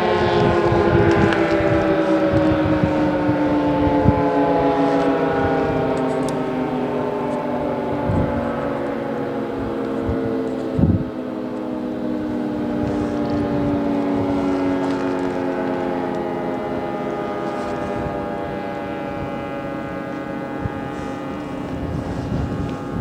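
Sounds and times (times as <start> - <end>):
distant three-tone siren: 0.0 - 23.0
wind rumble on microphone: 0.0 - 23.0.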